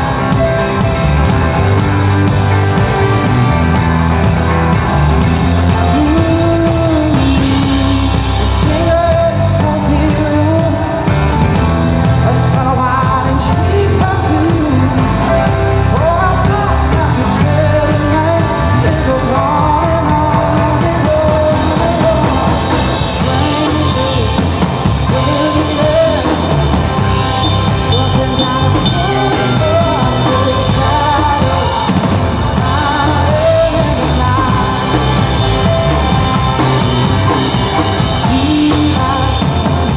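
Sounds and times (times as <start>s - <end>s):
live rock band with singing: 0.0s - 39.9s.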